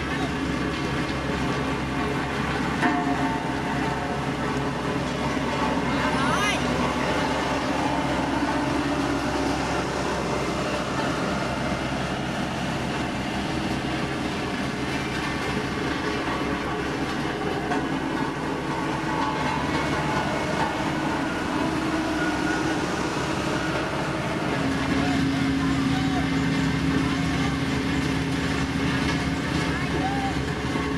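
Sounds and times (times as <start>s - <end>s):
diesel construction machine engine drone: 0.0s - 30.9s.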